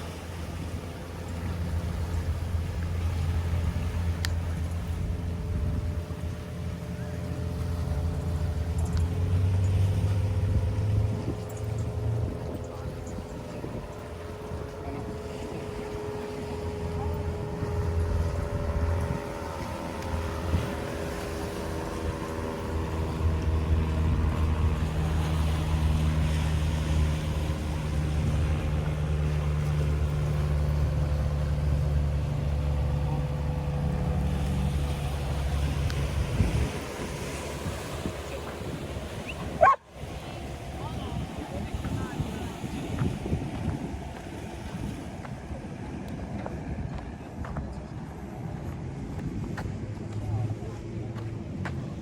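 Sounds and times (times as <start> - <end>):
engine droning: 0.0 - 52.0.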